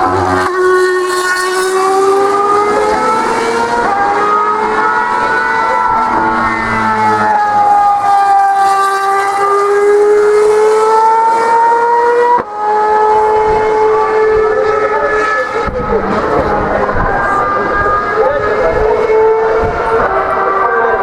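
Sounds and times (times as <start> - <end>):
racing car engine at high revs: 0.0 - 21.0.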